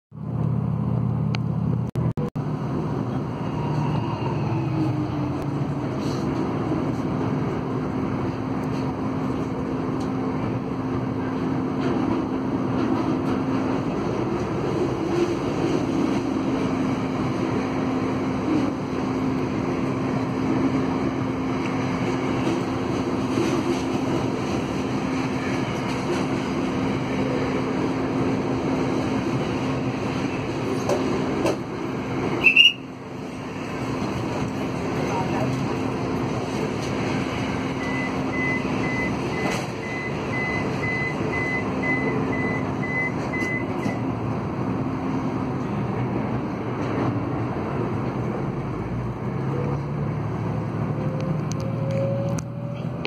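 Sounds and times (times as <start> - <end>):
train rumbling on rails: 0.1 - 53.0.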